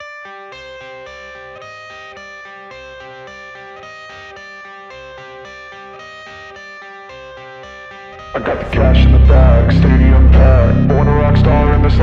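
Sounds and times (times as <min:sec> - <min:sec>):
instrumental electric guitar music: 0:00.0 - 0:12.0.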